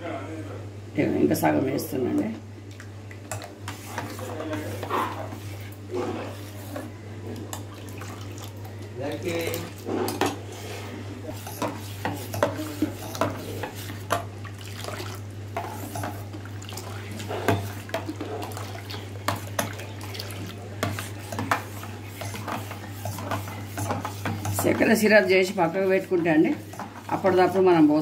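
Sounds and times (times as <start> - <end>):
spoon stirring liquid: 2.7 - 27.8.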